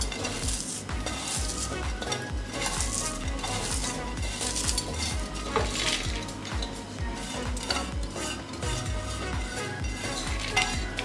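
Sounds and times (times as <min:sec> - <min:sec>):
background music with low beat: 0:00.0 - 0:11.0
fried onions crackling: 0:00.0 - 0:11.0.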